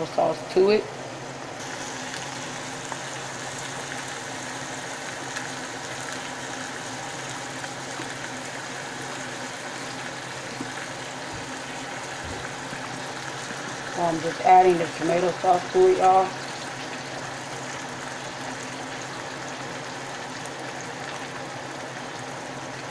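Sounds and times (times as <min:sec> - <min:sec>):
pots hissing on stovetop: 0:00.0 - 0:22.9.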